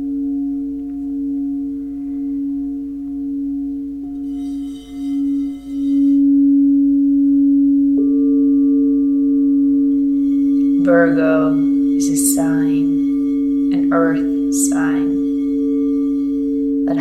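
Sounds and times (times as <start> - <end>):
high ringing shimmer: 0.0 - 17.0
higher singing bowl struck: 0.0 - 17.0
singing bowl humming: 0.0 - 17.0.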